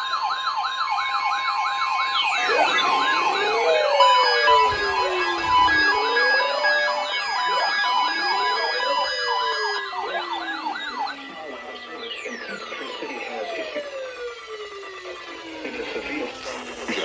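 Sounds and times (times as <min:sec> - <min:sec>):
emergency sirens yelping: 0:00.0 - 0:17.0
pulsing siren tone: 0:00.0 - 0:17.0
siren wailing: 0:00.0 - 0:17.0
siren winding down: 0:00.0 - 0:17.0.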